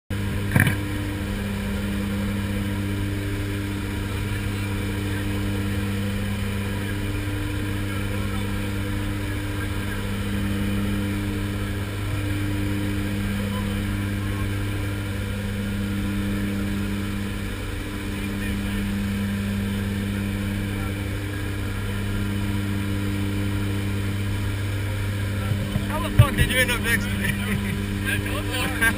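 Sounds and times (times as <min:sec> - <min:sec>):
propeller engines droning: 0:00.1 - 0:28.9.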